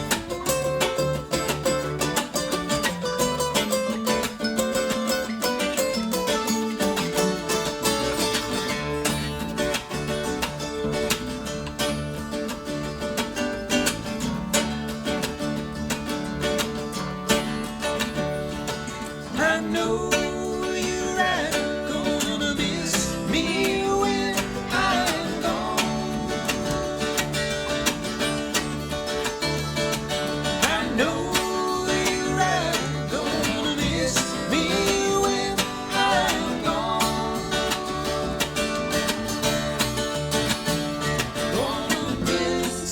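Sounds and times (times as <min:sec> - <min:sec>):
picked lead guitar lines: 0:00.0 - 0:42.9
sliding bending lead notes: 0:00.0 - 0:42.9
strummed guitar chords: 0:00.0 - 0:42.9.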